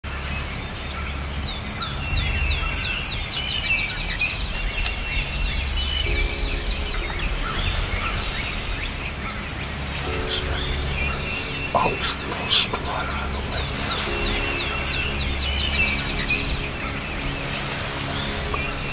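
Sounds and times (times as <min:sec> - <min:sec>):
songbirds chirping and trilling: 0:00.1 - 0:18.9.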